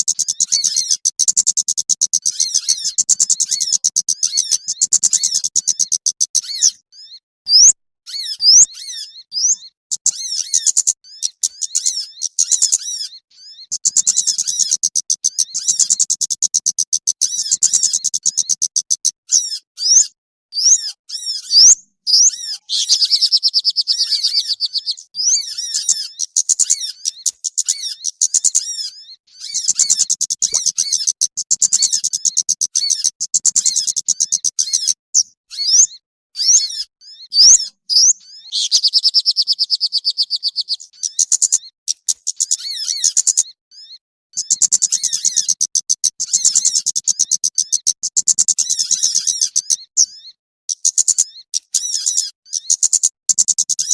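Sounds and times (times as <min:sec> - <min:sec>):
songbird chirps and trills: 0:00.0 - 0:53.9.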